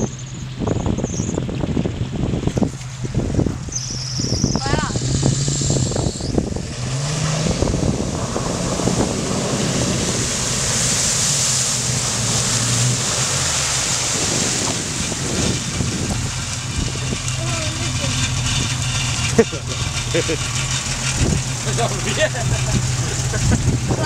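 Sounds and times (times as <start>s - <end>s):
car engine pulling hard: 0.0s - 24.0s
wind buffeting microphone: 0.0s - 24.0s
water spraying and rushing: 2.2s - 24.0s.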